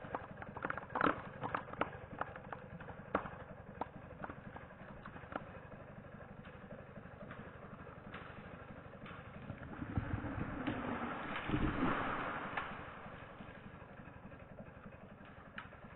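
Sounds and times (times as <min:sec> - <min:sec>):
chainsaw idling: 0:00.0 - 0:10.7, 0:12.8 - 0:15.9.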